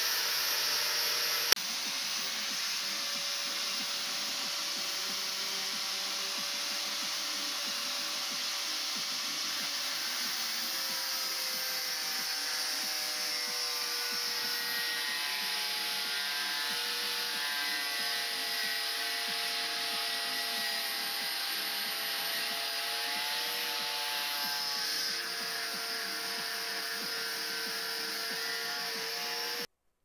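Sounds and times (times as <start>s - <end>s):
angle grinder on metal: 0.0s - 29.7s.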